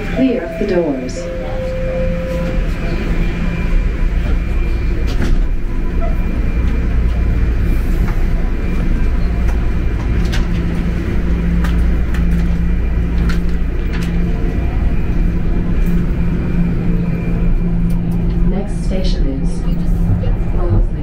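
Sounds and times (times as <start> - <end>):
droning hum: 0.0 - 21.0
subway train rumbling in tunnel: 0.0 - 21.0.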